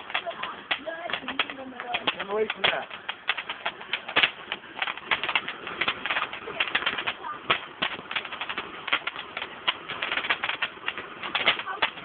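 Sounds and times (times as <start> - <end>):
firework crackling: 0.0 - 12.0.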